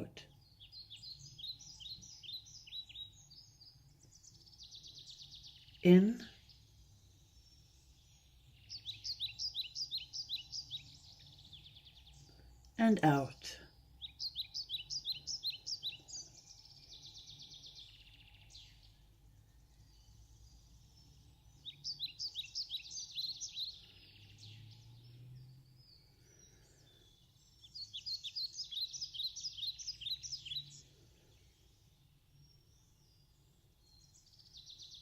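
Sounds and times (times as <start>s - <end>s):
songbird chirping: 0.0s - 35.0s.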